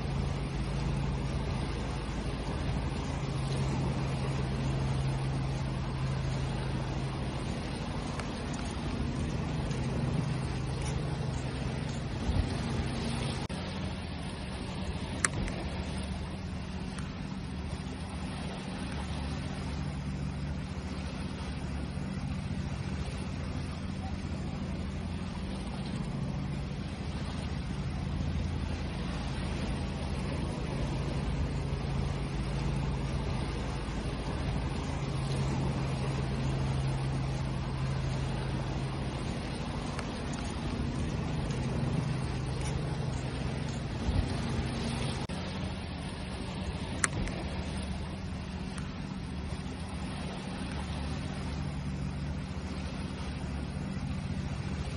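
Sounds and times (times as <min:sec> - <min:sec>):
low hum: 0:00.0 - 0:54.9
sea waves rumbling: 0:00.0 - 0:54.9.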